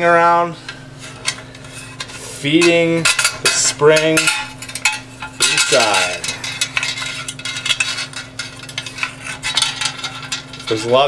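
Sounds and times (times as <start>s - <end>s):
steel spring scraping metal housing: 0.6s - 11.0s.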